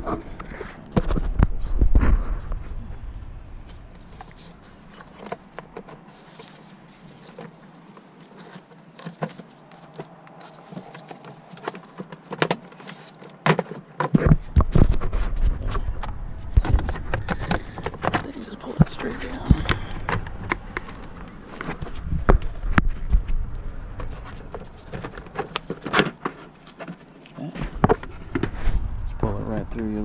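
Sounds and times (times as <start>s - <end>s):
handling thumps: 3.7s - 28.9s.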